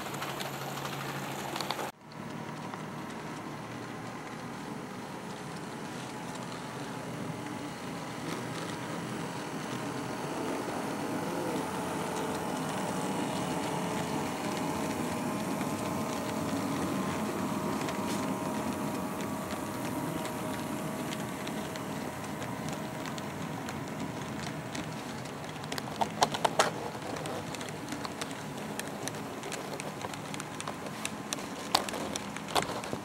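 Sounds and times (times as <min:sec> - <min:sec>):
model train humming: 0:00.0 - 0:33.0
wheels clicking over rail joints: 0:00.0 - 0:33.0.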